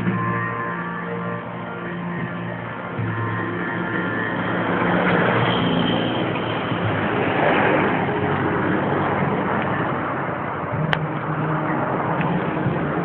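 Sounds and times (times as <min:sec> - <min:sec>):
vehicle passing by: 0:02.1 - 0:13.0.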